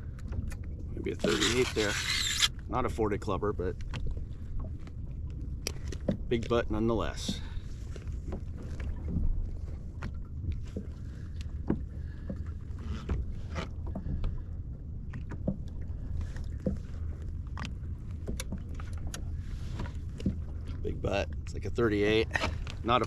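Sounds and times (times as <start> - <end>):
wind and water rumble: 0.0 - 23.0.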